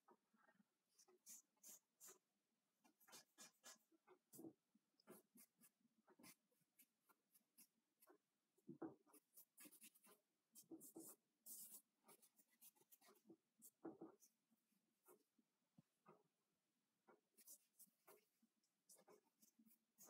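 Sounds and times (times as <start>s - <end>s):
charcoal scratching on paper: 1.0s - 14.4s, 17.3s - 20.0s.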